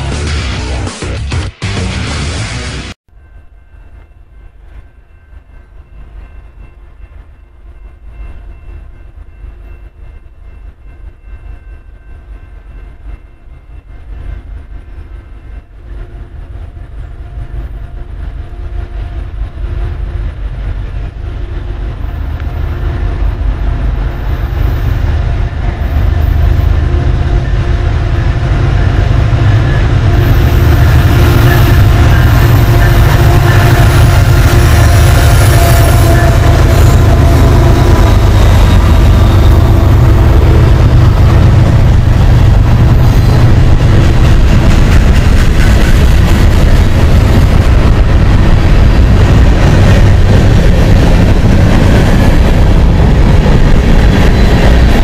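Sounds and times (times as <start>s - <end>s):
diesel train rumbling: 3.1s - 55.0s.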